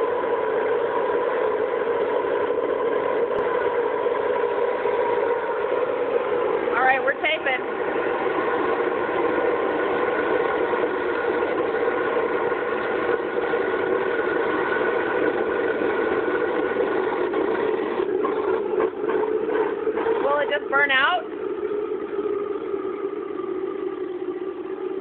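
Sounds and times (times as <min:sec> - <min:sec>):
oil furnace humming: 0:00.0 - 0:25.0.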